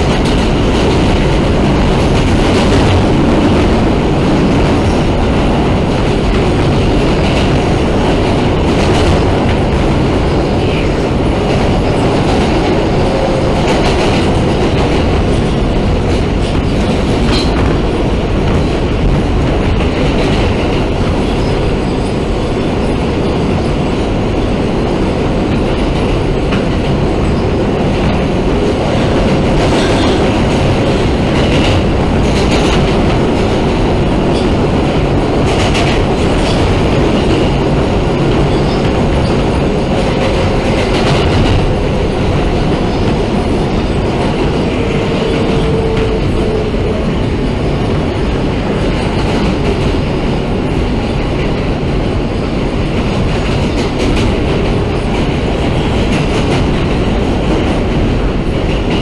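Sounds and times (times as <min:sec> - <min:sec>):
subway train rumble: 0:00.0 - 0:59.0
wheels clacking on rails: 0:00.0 - 0:59.0.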